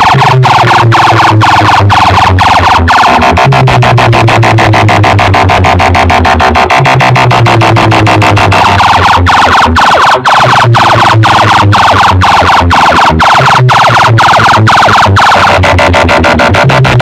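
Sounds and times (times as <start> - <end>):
loud dj music with heavy bass: 0.0 - 17.0.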